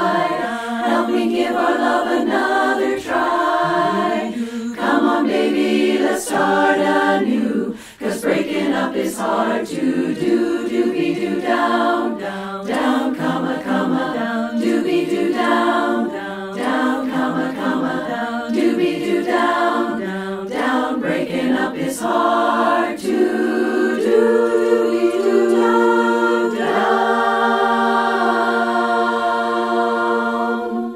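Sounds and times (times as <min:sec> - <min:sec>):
women's chorus singing a cappella: 0:00.0 - 0:30.9.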